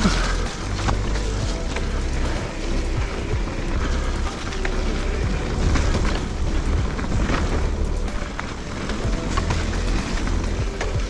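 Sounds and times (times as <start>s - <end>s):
bike clicks and rattles: 0.0s - 11.0s
bike tyres on rough trail: 0.0s - 11.0s
wind rumble on microphone: 0.0s - 11.0s.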